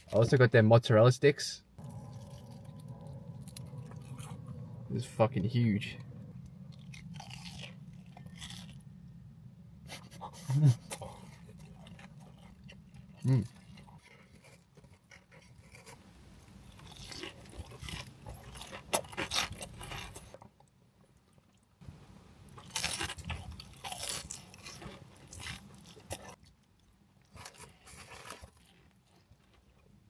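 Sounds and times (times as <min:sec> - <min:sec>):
crunching and chewing fried food: 0:01.7 - 0:30.0.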